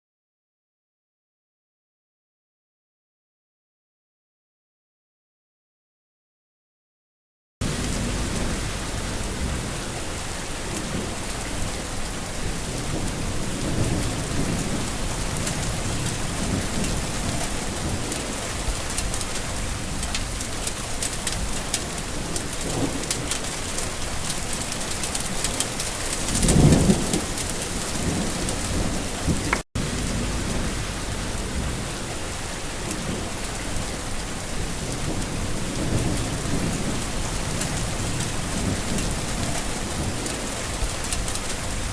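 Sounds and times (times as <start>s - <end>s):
heavy rain falling: 7.6s - 41.9s
thunder rumbling: 7.6s - 41.9s.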